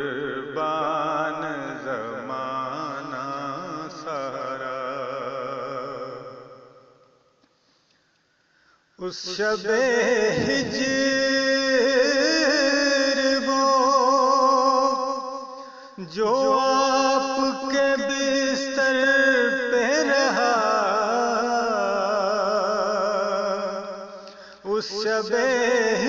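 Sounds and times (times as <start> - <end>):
man singing devotional song: 0.0 - 7.0, 9.0 - 26.0.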